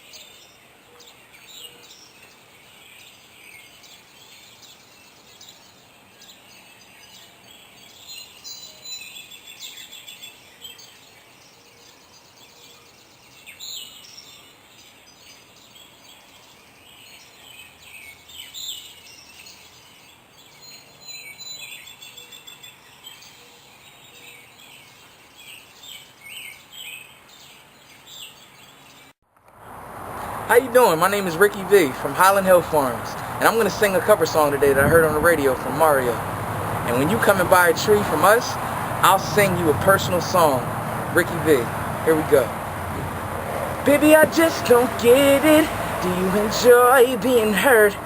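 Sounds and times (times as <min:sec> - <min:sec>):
faint background noise: 0:00.0 - 0:48.0
songbirds chirping and trilling: 0:00.0 - 0:48.0.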